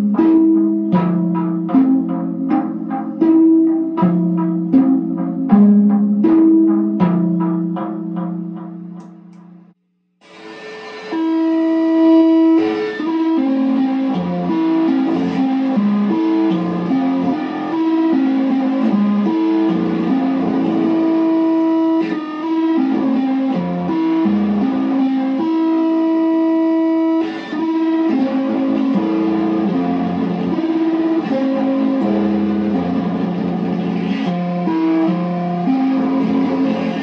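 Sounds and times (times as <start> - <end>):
kalimba through fuzz and delay: 0.0 - 9.7, 10.4 - 37.0.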